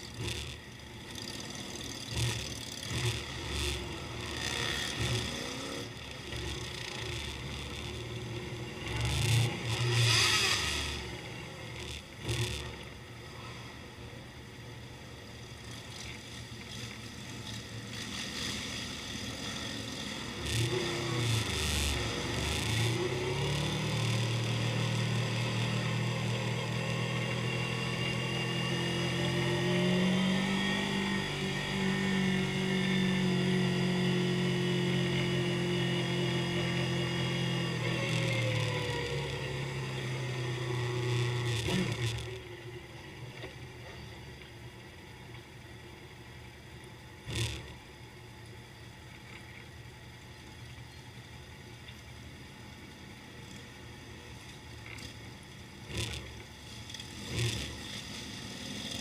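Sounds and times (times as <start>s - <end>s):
motorcycle engines revving: 0.0s - 45.2s, 47.2s - 48.2s, 53.1s - 59.0s.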